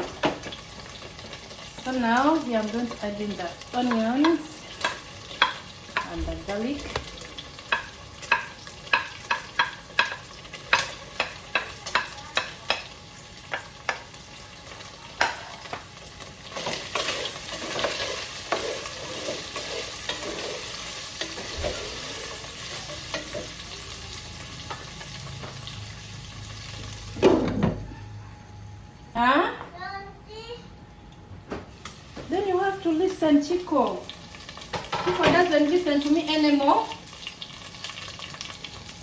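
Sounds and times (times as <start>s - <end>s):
food sizzling in oil: 0.0s - 27.3s, 31.7s - 39.0s.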